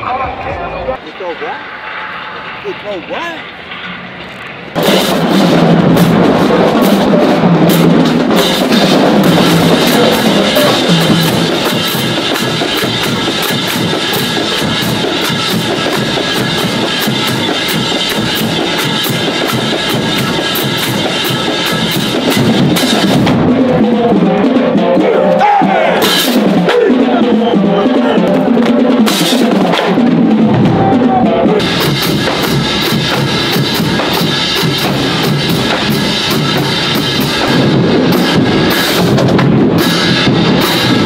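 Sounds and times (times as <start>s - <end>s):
drumline playing bass and snares: 0.0s - 41.0s.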